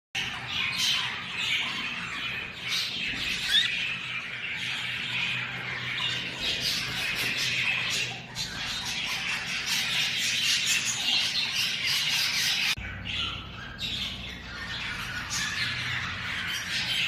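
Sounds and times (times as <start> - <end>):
budgerigars chattering: 0.2 - 17.0.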